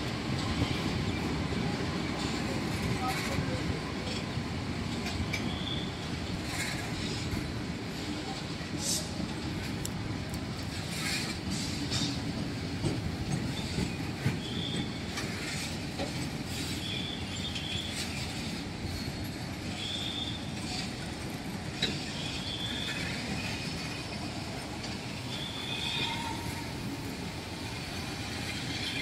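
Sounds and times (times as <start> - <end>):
rail joint clicks: 0.0 - 29.0
steel wheels rumbling on rail: 0.0 - 29.0.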